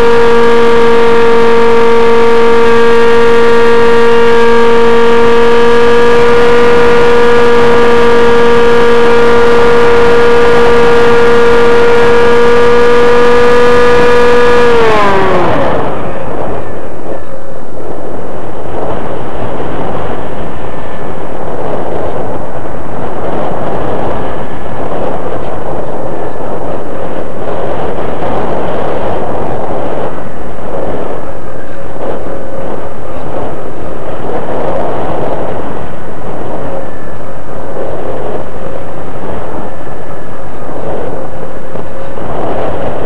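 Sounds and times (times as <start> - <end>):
faint high motor whine: 0.0 - 43.0
propeller and airflow rush: 0.0 - 43.0.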